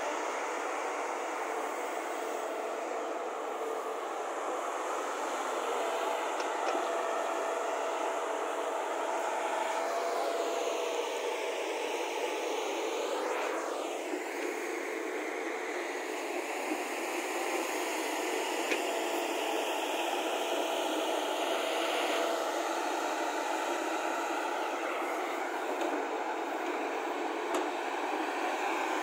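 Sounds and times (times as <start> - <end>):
heavy construction machinery running: 0.0 - 29.0.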